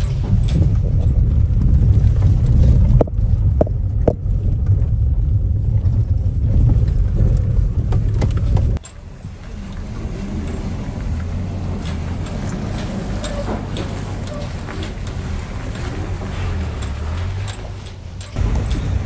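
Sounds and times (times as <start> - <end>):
loud low rumble: 0.0 - 19.0.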